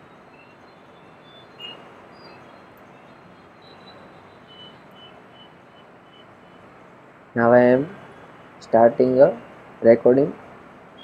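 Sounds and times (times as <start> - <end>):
faint high chirps: 0.0 - 9.6
room tone hiss: 0.0 - 11.0.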